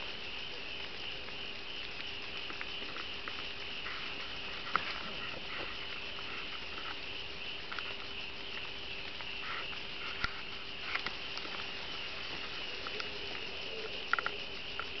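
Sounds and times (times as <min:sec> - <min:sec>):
faint steady hum: 0:00.0 - 0:15.0
night insects chirring: 0:00.0 - 0:15.0.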